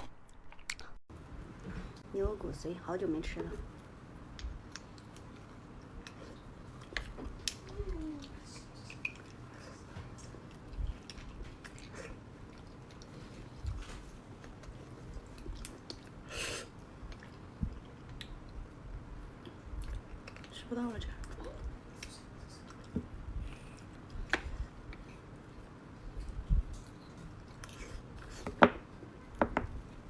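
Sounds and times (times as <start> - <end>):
chewing and wet mouth sounds: 3.4 - 30.0.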